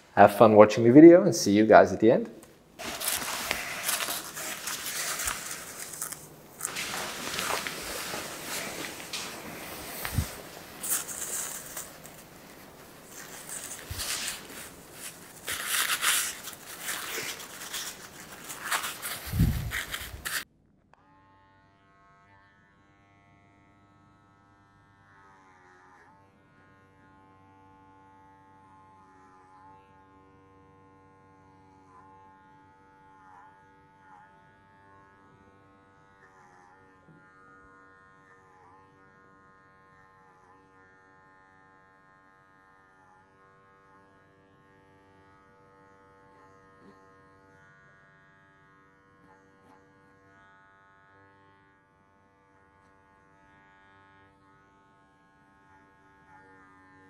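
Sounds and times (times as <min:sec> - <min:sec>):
electric hair clippers buzzing: 0:02.8 - 0:20.4, 0:21.0 - 0:30.2, 0:30.9 - 0:57.0.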